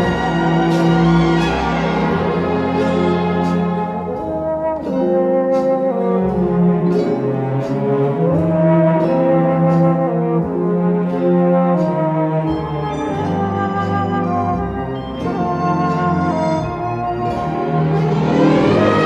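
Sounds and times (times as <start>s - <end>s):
slow instrumental melody: 0.0s - 19.0s.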